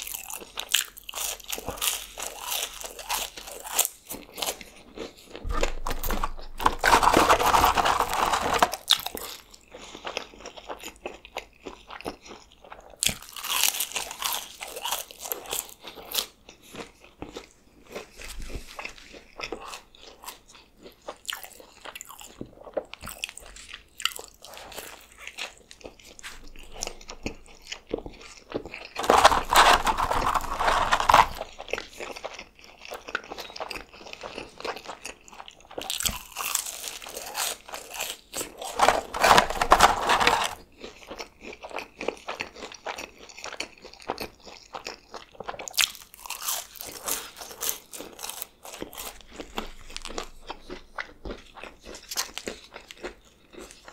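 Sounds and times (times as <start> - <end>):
close-miked chewing and biting: 0.0 - 53.9.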